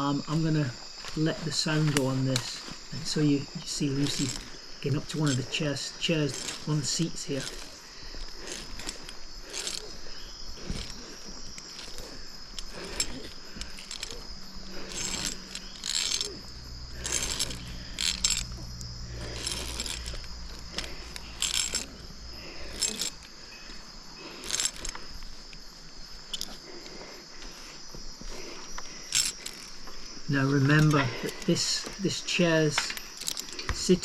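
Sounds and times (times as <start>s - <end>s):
climbing gear clicking and rattling: 0.0s - 34.0s
insects droning: 0.0s - 34.0s.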